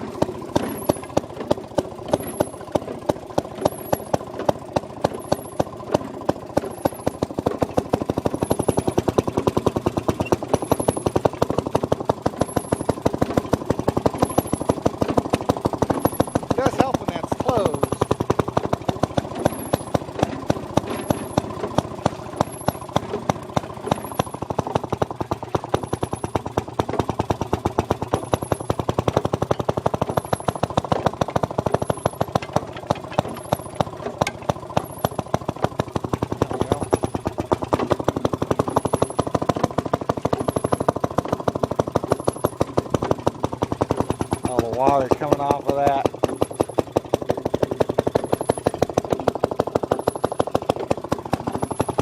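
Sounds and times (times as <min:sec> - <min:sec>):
two-stroke engine exhaust popping: 0:00.0 - 0:52.0.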